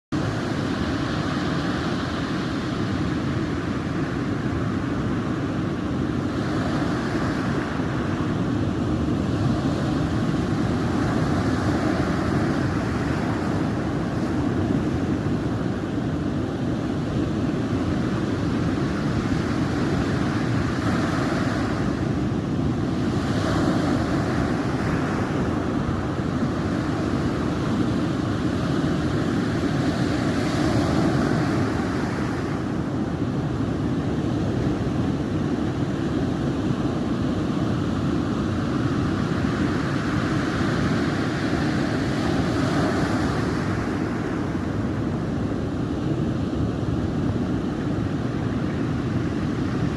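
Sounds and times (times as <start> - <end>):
wind on microphone: 0.1 - 49.9
waves breaking on shore: 0.2 - 49.9.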